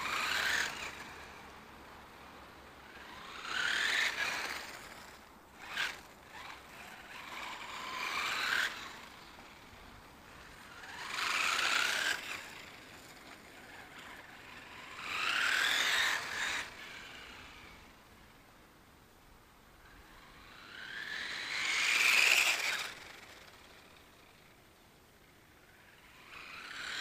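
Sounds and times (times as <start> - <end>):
toy car electric motor whining: 0.0 - 1.5, 2.3 - 18.0, 19.8 - 24.6, 25.3 - 27.0
tyre noise on asphalt: 0.0 - 18.0, 19.9 - 24.6.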